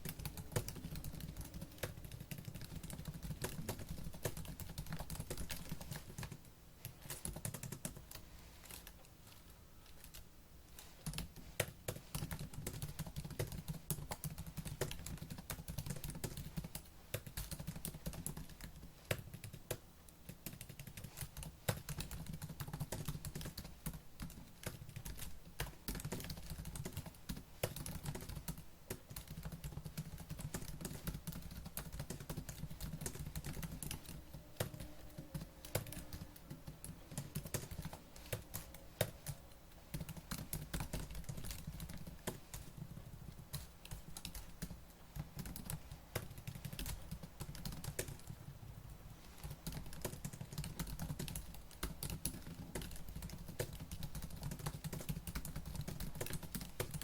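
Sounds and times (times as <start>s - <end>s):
fast typing on laptop keyboard: 0.0s - 57.0s.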